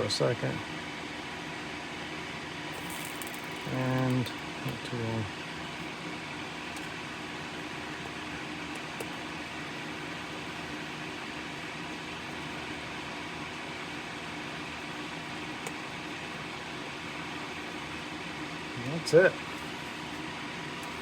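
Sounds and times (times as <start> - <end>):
small fan running: 0.0 - 21.0.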